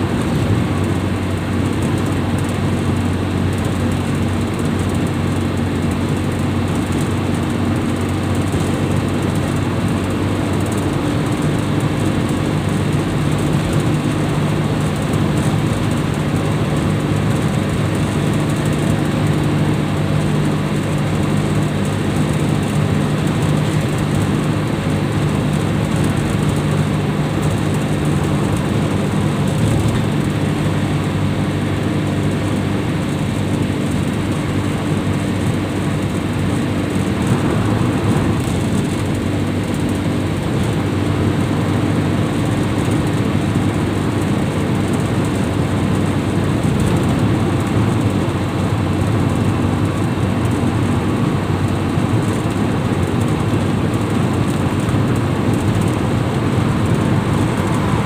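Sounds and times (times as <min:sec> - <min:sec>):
tyre and road noise: 0:00.0 - 0:58.0
van engine drone: 0:00.0 - 0:58.0.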